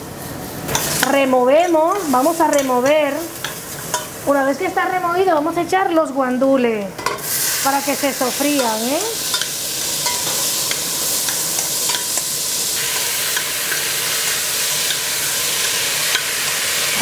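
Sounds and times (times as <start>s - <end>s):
peas sizzling in oil: 0.1s - 17.0s.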